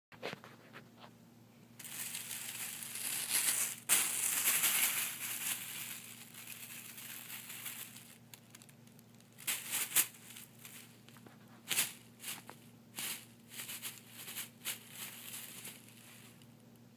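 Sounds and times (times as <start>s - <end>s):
plastic bag crinkling and rustling: 1.8s - 16.5s.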